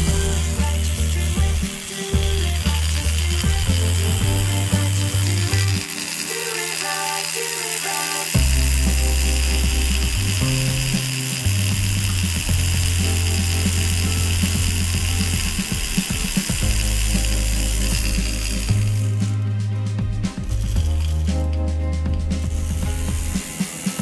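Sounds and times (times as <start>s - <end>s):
handheld fan whirring: 0.0s - 24.0s.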